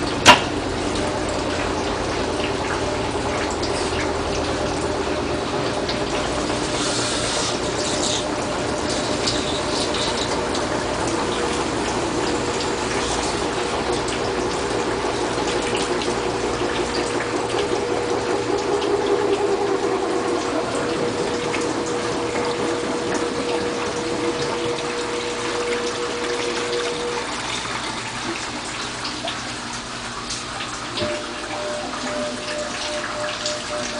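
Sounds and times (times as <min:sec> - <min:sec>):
pump hum: 0:00.0 - 0:33.9
water rushing in washing machine: 0:00.0 - 0:33.9.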